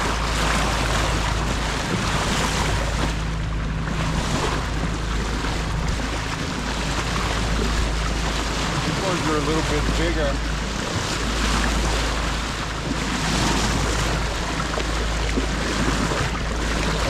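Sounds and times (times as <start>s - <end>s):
boat motor humming: 0.0s - 17.0s
water rushing along boat bow: 0.0s - 17.0s.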